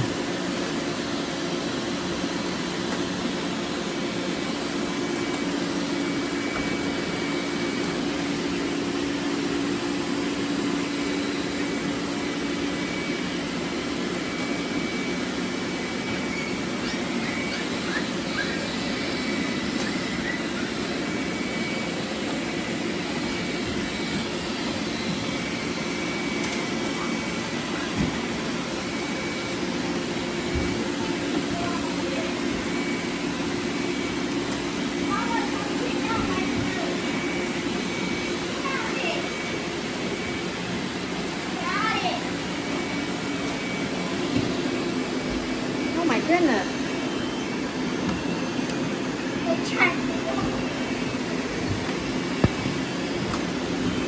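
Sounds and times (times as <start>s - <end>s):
robot vacuums whirring: 0.0s - 54.0s.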